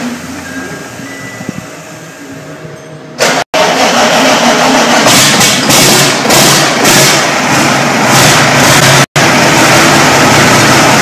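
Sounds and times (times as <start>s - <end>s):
diesel engine starting and running: 0.0s - 11.0s.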